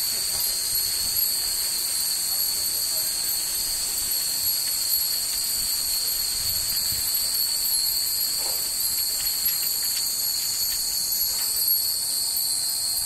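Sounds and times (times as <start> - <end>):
steady high-pitched hiss: 0.0 - 13.0
wind chimes tinkling: 0.0 - 13.0.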